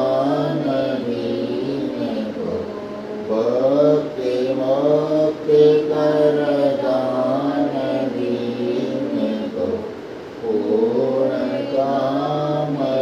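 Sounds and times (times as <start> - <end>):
person chanting a mantra: 0.0 - 13.0.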